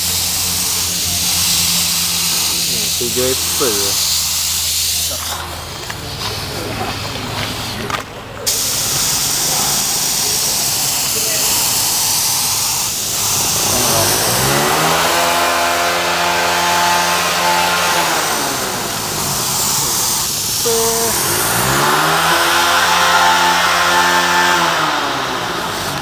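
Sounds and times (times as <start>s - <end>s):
engine revving: 0.0s - 26.0s
steady hiss: 0.0s - 26.0s.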